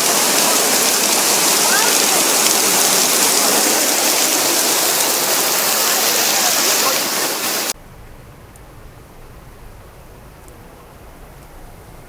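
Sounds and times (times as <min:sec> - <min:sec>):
torrential downpour: 0:00.0 - 0:12.0.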